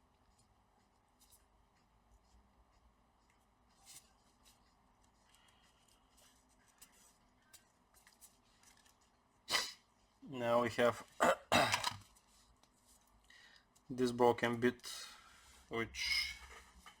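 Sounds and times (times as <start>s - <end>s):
faint handling clicks and rustles: 0.1s - 15.7s.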